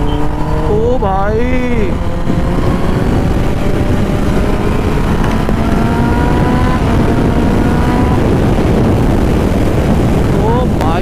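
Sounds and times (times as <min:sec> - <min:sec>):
motorcycle engine accelerating: 0:00.0 - 0:11.0
wind rush on microphone: 0:00.0 - 0:11.0.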